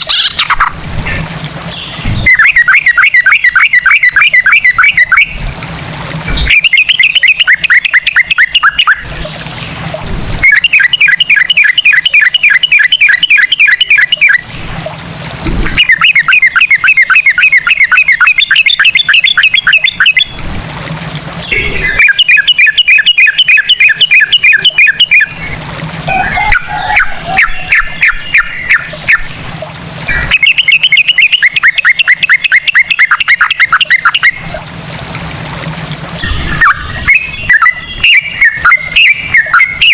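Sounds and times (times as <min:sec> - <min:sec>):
bird singing fast trills: 0:00.0 - 0:14.6, 0:15.7 - 0:29.4, 0:30.1 - 0:34.6, 0:35.3 - 0:39.9.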